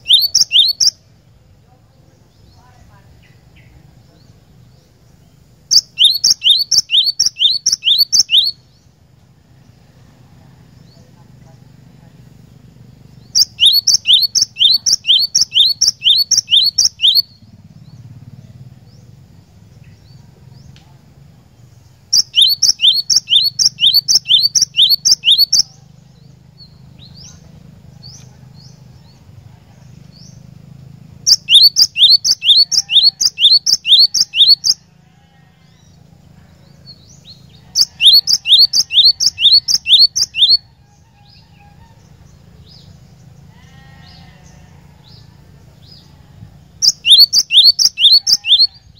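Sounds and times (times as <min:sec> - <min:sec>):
faint bird chirps: 0:00.0 - 0:48.9.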